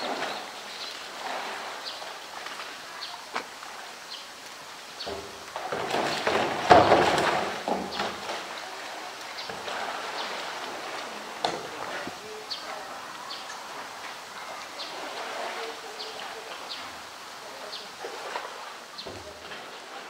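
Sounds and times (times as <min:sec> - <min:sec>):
pool water lapping and splashing: 0:00.0 - 0:20.0.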